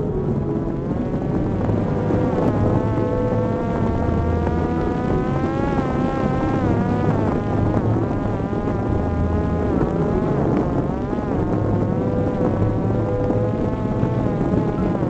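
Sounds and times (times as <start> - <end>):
drone motor whining: 0.0 - 15.0
wind rushing: 0.0 - 15.0.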